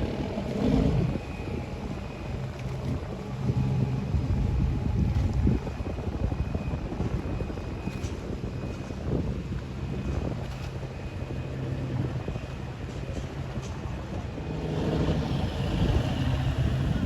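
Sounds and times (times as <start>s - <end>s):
tugboat engine humming: 0.0s - 17.0s.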